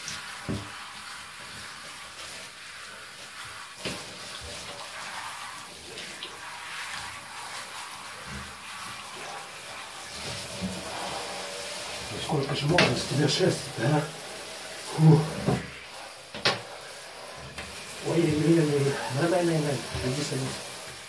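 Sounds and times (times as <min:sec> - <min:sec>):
shower head spraying water: 0:00.0 - 0:21.0.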